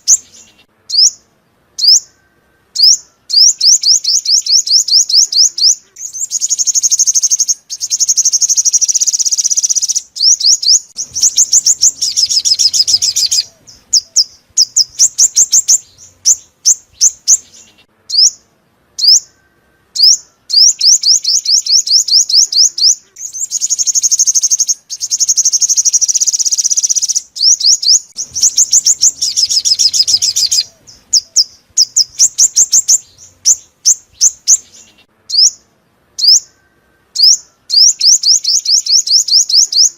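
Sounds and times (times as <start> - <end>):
sunbird trills and chirps: 0.0 - 39.9.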